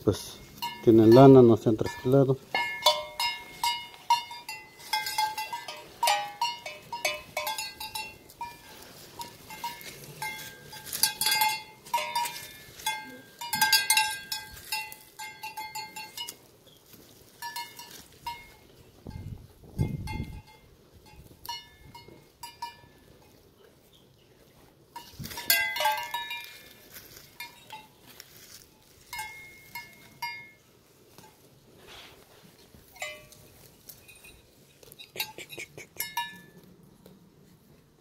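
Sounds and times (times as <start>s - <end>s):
sheep bell clanking: 0.2s - 23.3s, 24.9s - 31.5s, 32.9s - 36.7s.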